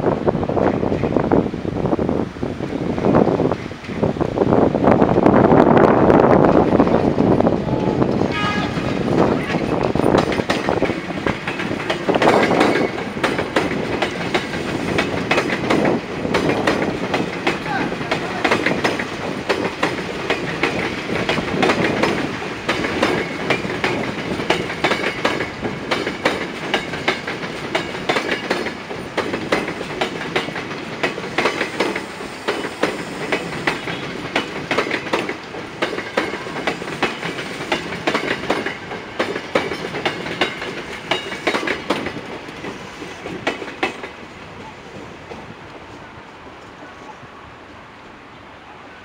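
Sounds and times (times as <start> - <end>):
train wheels clattering on rails: 2.6 - 46.7.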